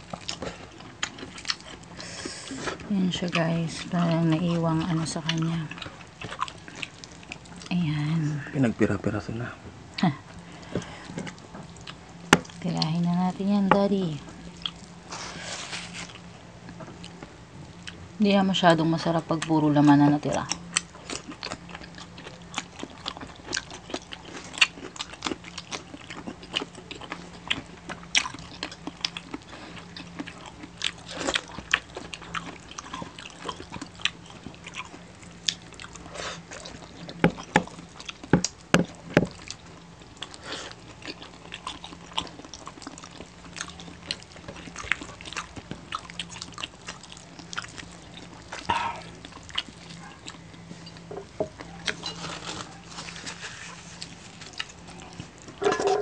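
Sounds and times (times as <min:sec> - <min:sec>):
faint low hum: 0:00.0 - 0:56.0
people chewing meat: 0:00.0 - 0:56.0.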